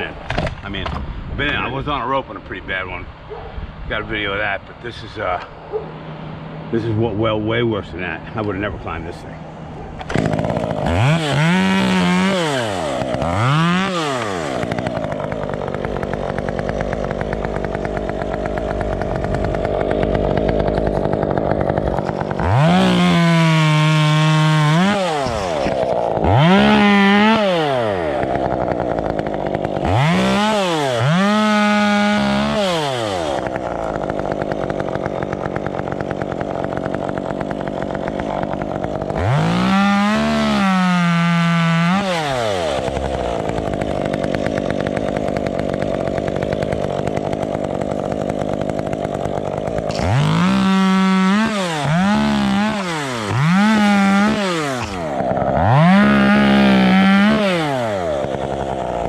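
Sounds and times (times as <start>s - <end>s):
chainsaw revving and idling: 5.3s - 59.0s.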